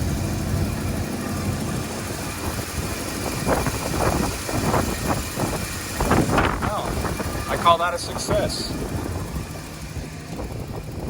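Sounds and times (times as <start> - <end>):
engine idling: 0.0 - 11.0
engine ticking: 0.0 - 11.0.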